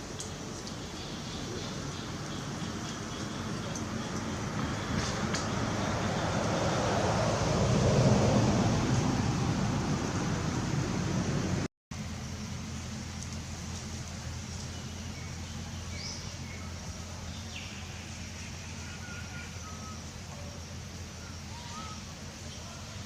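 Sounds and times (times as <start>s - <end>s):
low mechanical hum: 0.0s - 6.9s, 9.9s - 23.0s.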